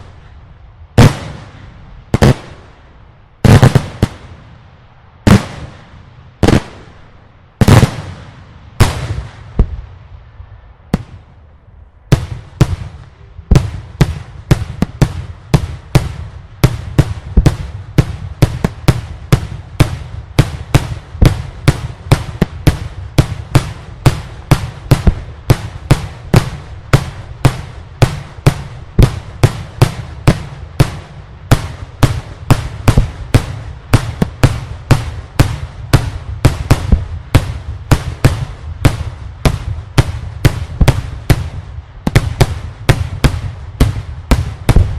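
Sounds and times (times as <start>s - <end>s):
fireworks bangs with rumbling echo: 0.0s - 44.9s.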